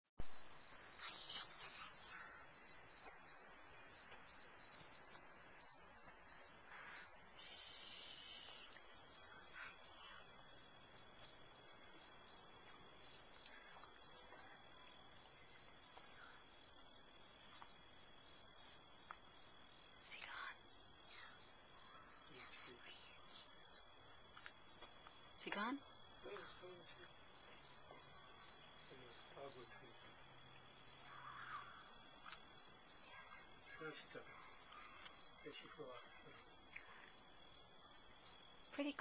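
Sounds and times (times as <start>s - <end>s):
insects chirping: 0.2s - 39.0s.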